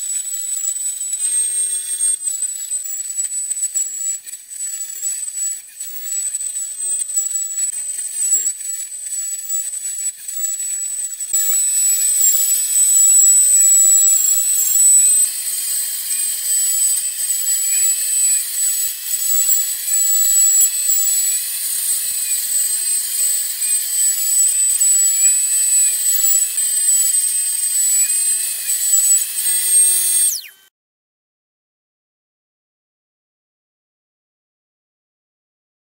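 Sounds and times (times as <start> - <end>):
router whining while cutting wood: 0.0 - 30.7.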